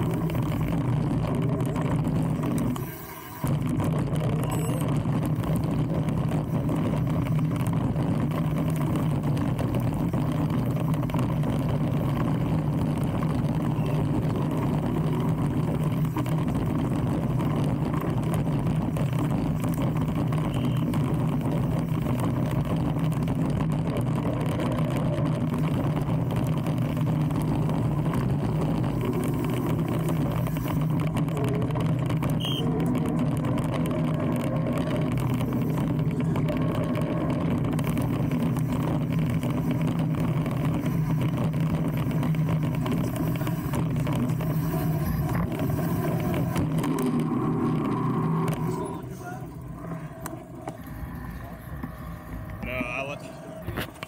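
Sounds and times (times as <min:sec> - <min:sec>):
wind rumble: 0:00.0 - 0:02.8, 0:03.4 - 0:54.0
bike tyre noise on dirt: 0:00.0 - 0:54.0.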